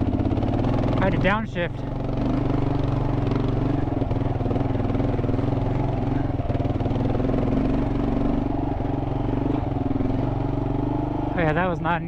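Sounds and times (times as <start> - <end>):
motorcycle engine running under load: 0.0 - 12.0.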